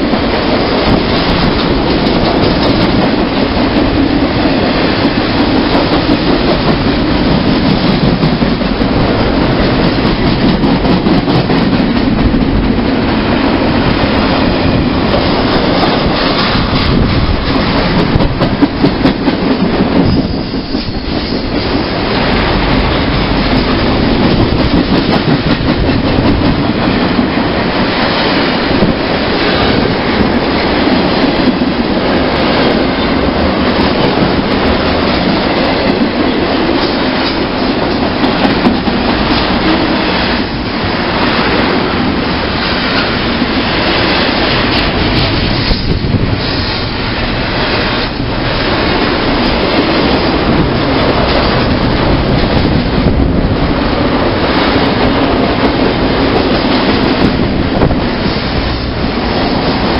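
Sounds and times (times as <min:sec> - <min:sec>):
freight train wheels rumbling: 0:00.0 - 0:59.9
wheels clacking over rail joints: 0:00.0 - 0:59.9.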